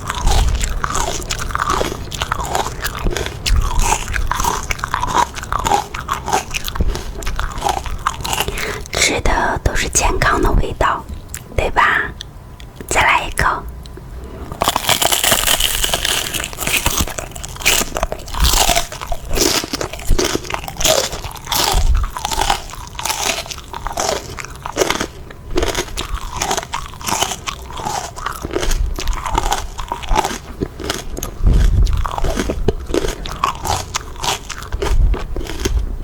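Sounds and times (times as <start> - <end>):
crunchy chewing of pepper: 0.0 - 36.0.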